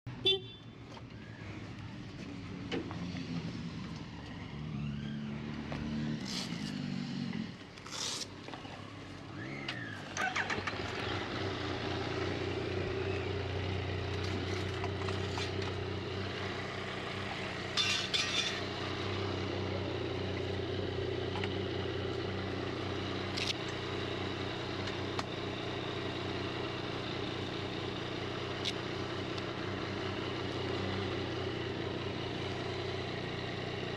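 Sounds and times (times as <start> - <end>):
engine running: 0.5 - 33.9.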